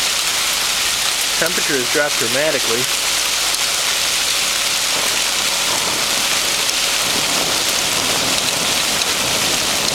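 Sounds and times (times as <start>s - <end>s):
hailstones falling: 0.0s - 9.9s.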